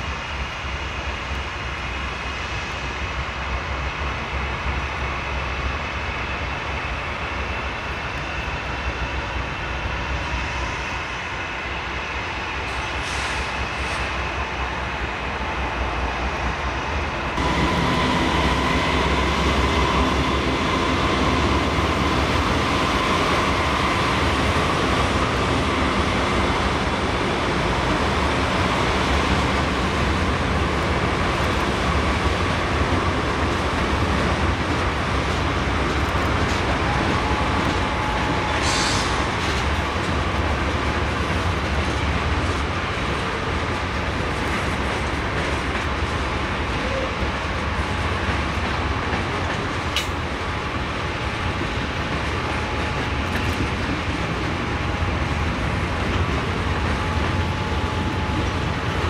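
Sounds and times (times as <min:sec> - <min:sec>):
diesel freight locomotives: 0:00.0 - 0:59.0
train cars rumbling on rails: 0:00.0 - 0:59.0.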